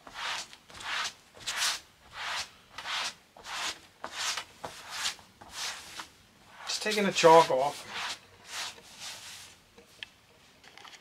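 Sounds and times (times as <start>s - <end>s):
cloth rubbing on upholstery: 0.1s - 9.6s.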